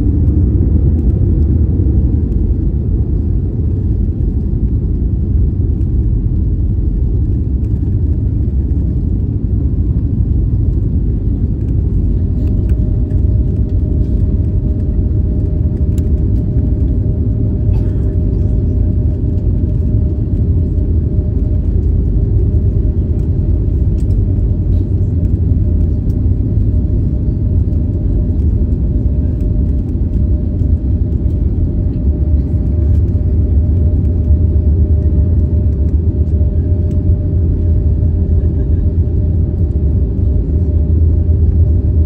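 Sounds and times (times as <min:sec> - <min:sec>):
jet engines and wheels rumbling: 0:00.0 - 0:42.0
steady cabin hum: 0:00.0 - 0:42.0.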